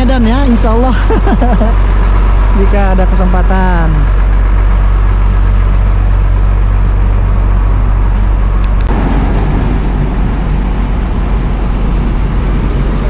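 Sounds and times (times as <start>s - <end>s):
coach diesel engine idling: 0.0s - 13.0s.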